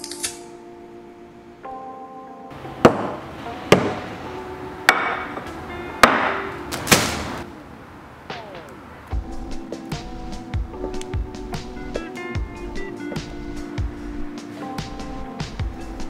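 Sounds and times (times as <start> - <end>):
background music with held notes: 0.0 - 6.9, 9.1 - 16.0.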